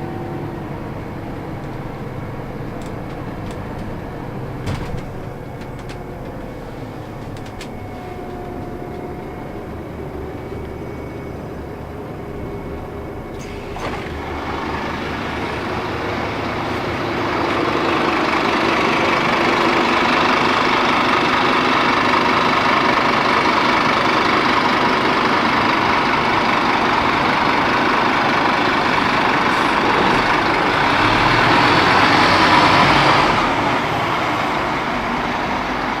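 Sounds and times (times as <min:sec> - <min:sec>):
bus engine running: 0:00.0 - 0:36.0
road noise: 0:00.0 - 0:36.0.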